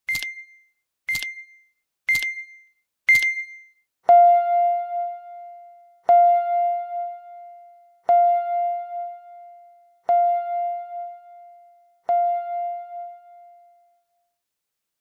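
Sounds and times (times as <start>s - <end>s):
bell-like timer chime: 0.1s - 14.2s.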